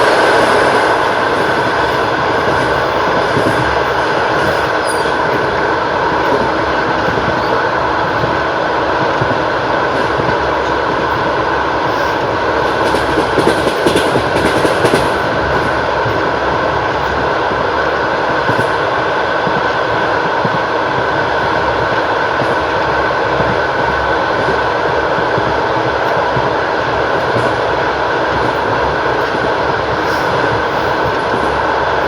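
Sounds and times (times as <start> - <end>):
train wheels clattering over rails: 0.0 - 32.0.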